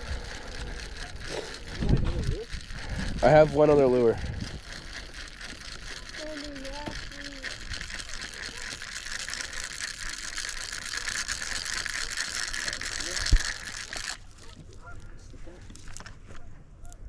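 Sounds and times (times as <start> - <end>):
fishing reel clicking: 0.0 - 16.1.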